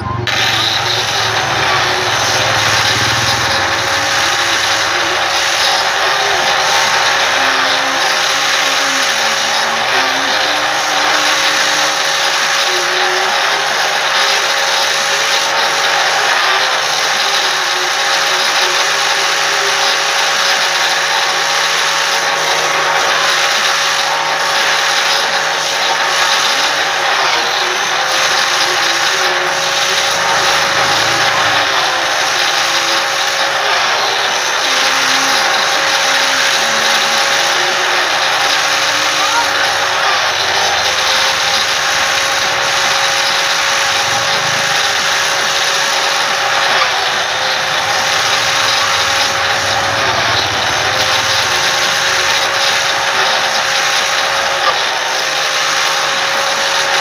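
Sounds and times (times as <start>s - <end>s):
power tool motor running: 0.0s - 57.0s.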